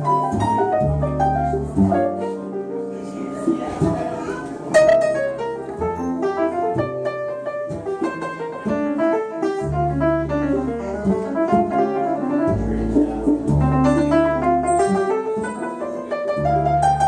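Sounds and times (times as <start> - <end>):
grand piano chords and runs: 0.0 - 17.0
plucked upright bass: 0.0 - 17.0.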